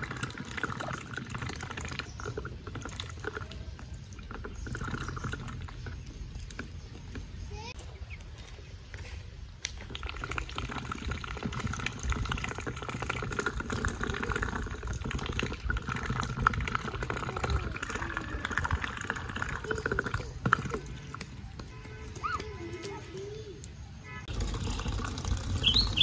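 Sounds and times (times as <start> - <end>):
ducks dabbling in water: 0.0 - 26.0.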